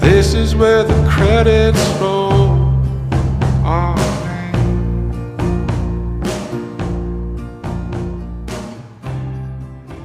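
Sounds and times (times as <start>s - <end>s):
drum hits: 0.0s - 9.0s
rock song: 0.0s - 10.0s.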